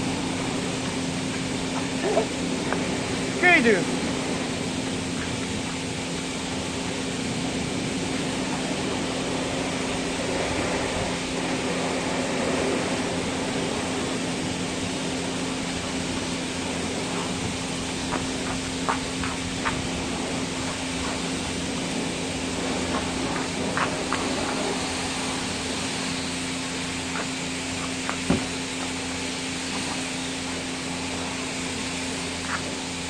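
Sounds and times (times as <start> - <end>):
brush scrubbing car: 0.0 - 33.0
foam feed hiss and hum: 0.0 - 33.0.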